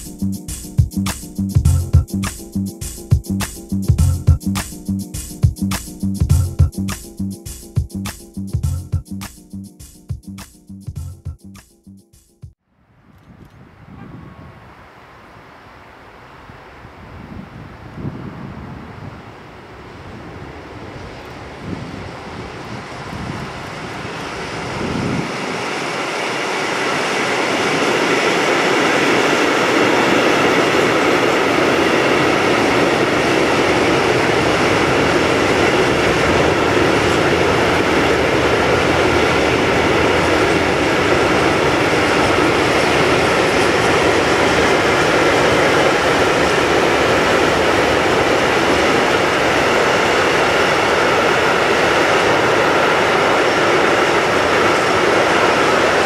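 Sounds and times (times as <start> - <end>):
freight train rumbling and rattling: 0.0 - 9.1, 19.9 - 56.0.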